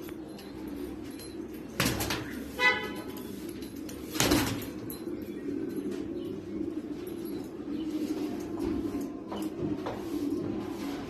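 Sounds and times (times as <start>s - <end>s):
pigeons cooing: 0.1s - 11.0s.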